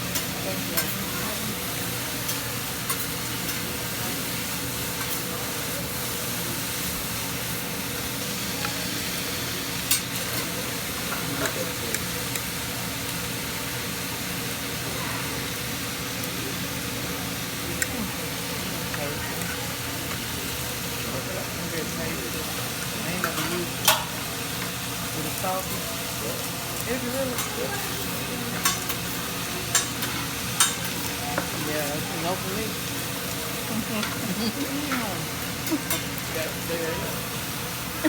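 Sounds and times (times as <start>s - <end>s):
griddle sizzling: 0.0s - 38.0s.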